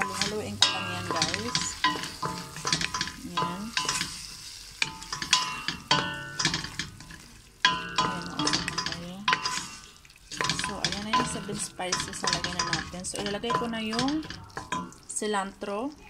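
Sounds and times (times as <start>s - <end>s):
wooden spoon scraping pot: 0.0s - 15.0s
food frying and sizzling: 0.0s - 16.0s.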